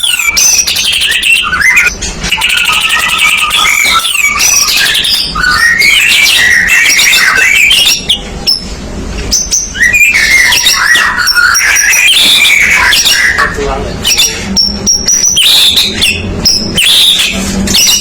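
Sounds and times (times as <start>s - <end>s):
bird singing varied whistles: 0.0s - 8.6s, 9.3s - 18.0s.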